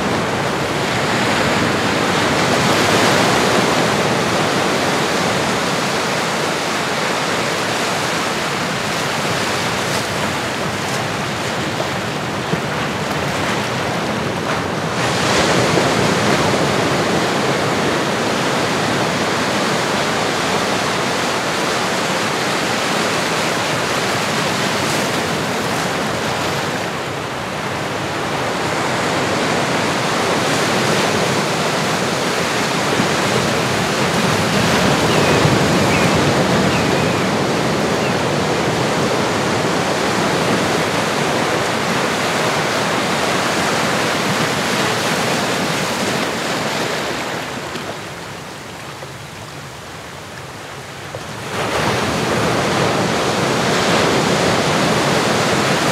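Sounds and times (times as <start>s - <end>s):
ocean waves rushing: 0.0s - 55.9s.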